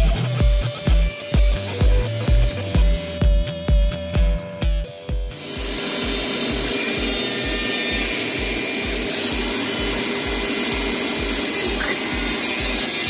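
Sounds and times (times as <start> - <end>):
welding arc hissing and throbbing: 0.0 - 13.0.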